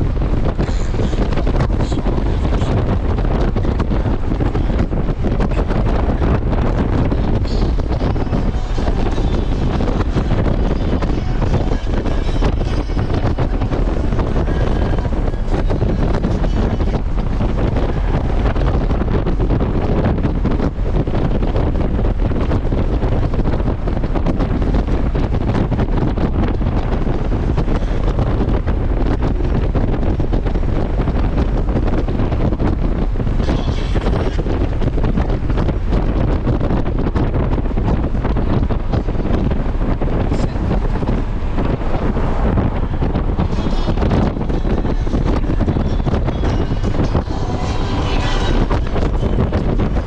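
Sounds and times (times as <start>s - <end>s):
wind rush on microphone: 0.0s - 50.0s.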